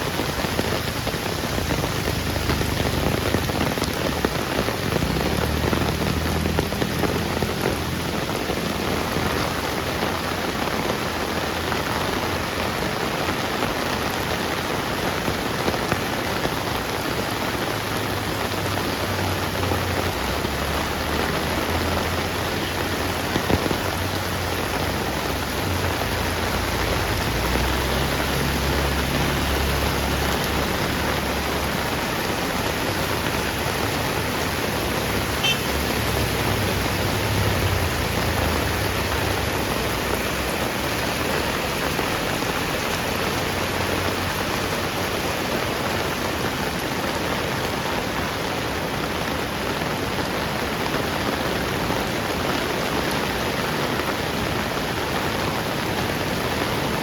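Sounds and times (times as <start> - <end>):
heavy rain on hard surfaces: 0.0 - 57.0.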